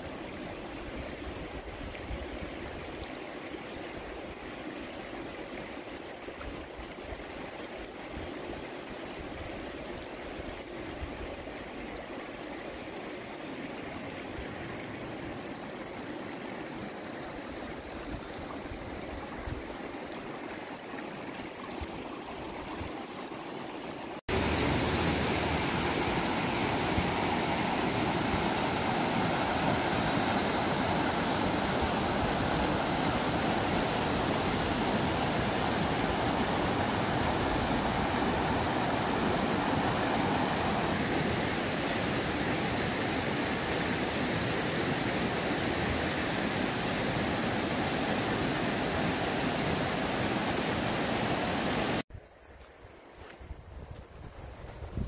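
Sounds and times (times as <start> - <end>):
river running over rocks: 0.0 - 52.0
faint outdoor rush: 0.0 - 55.0.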